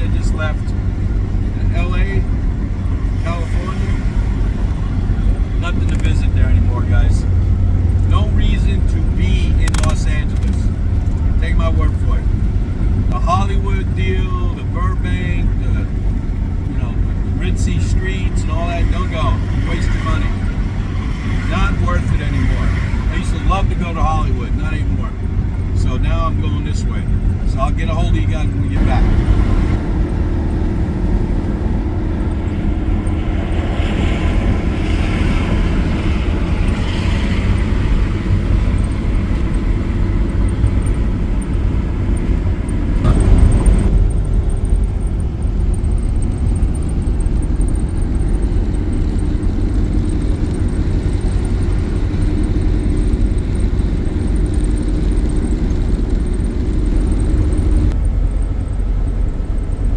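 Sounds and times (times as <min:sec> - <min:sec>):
air through open window: 0:00.0 - 0:59.9
engine and tyre road rumble: 0:00.0 - 0:59.9.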